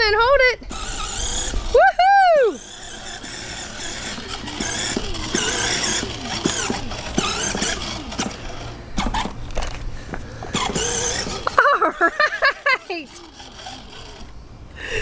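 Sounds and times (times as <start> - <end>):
electric ride-on toy whirring: 0.0 - 15.0.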